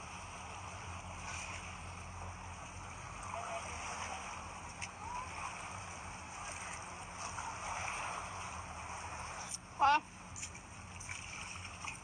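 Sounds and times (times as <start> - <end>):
seawater washing among rocks: 0.0 - 12.0.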